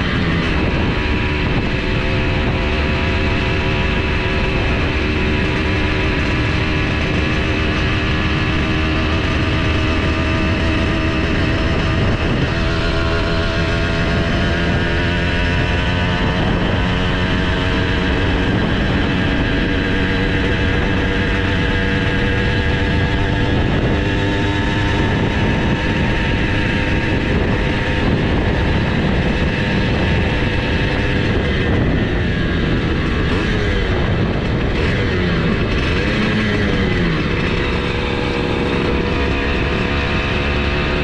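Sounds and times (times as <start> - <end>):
two-stroke engine at high revs: 0.0 - 41.0
wind noise: 0.0 - 41.0.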